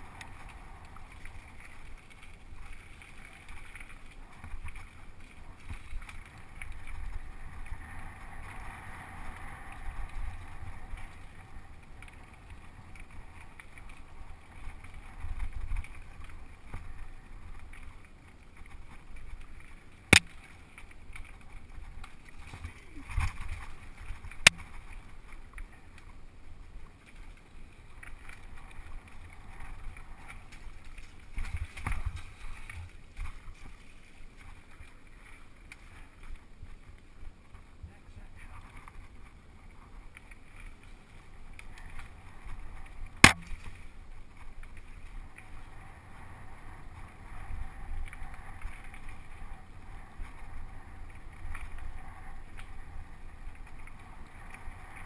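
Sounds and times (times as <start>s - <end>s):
bike tyres rumbling over rough trail: 0.0s - 55.0s.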